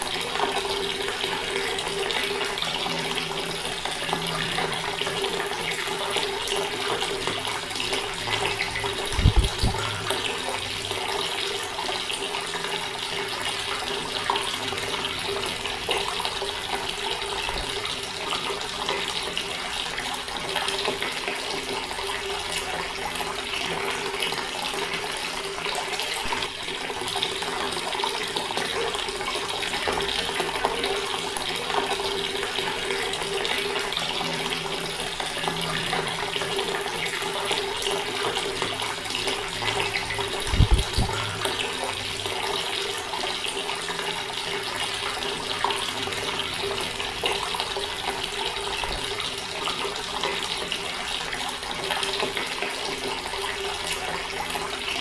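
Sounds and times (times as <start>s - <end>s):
water tap running: 0.0s - 55.0s.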